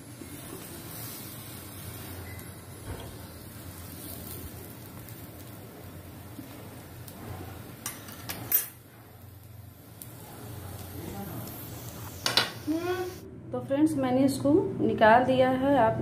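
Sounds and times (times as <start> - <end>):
low steady hiss: 0.0 - 14.9.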